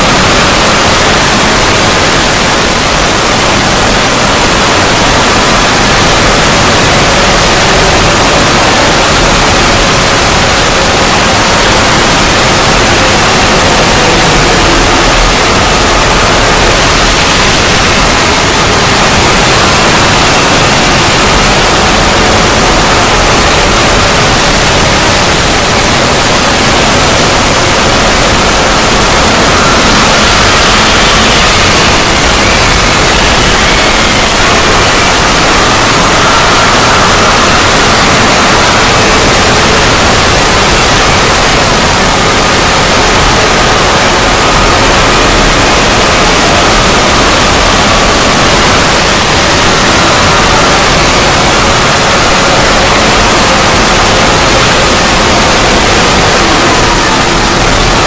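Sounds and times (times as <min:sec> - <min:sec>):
loud static noise drone: 0:00.0 - 0:58.0.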